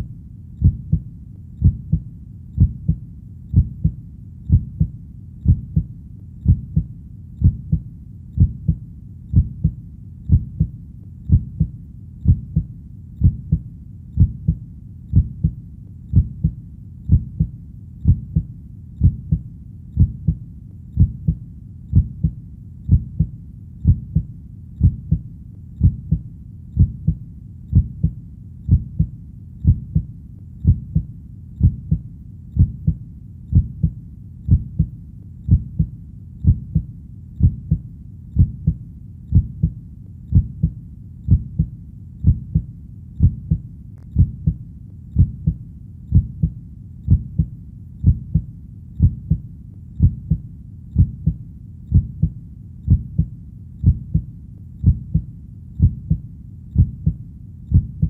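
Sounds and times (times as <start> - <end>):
slow heartbeat: 0.0 - 58.0.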